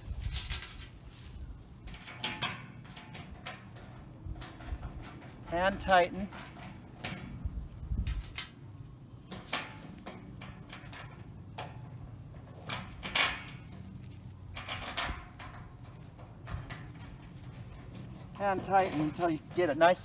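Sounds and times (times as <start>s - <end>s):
light metal clinks and knocks: 1.8s - 8.6s, 9.2s - 20.0s.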